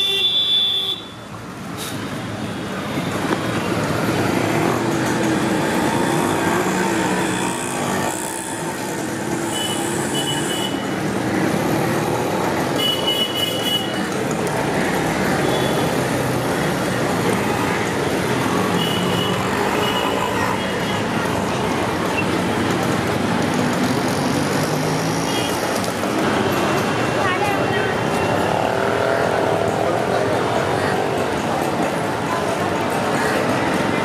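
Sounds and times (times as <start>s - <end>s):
street traffic passing: 0.0s - 34.0s.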